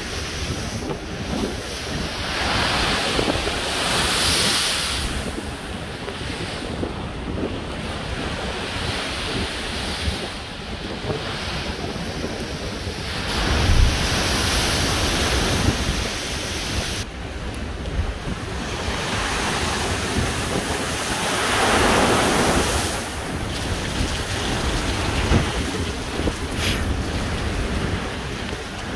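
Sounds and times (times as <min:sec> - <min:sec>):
storm waves crashing: 0:00.0 - 0:28.9
wind buffeting microphone: 0:00.0 - 0:28.9.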